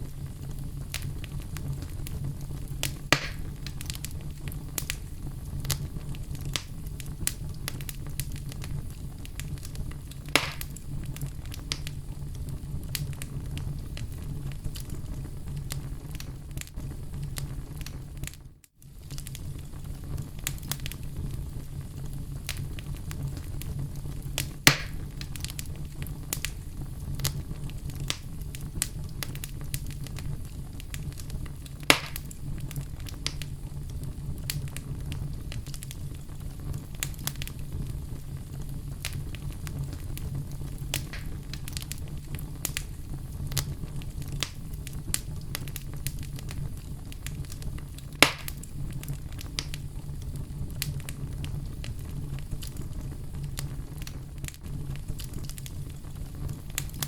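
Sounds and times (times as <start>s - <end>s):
logs crackling and popping: 0.0s - 57.0s
low rumble of fire: 0.0s - 57.0s.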